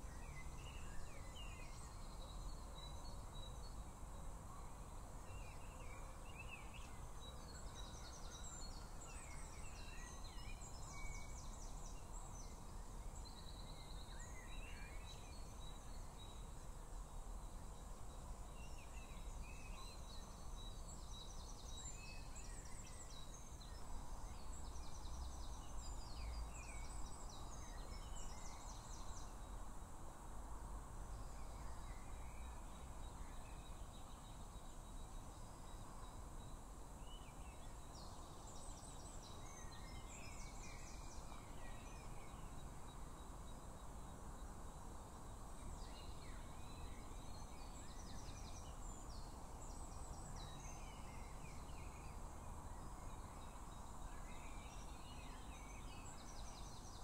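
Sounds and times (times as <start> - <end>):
small birds singing: 0.0 - 29.8, 31.0 - 57.0.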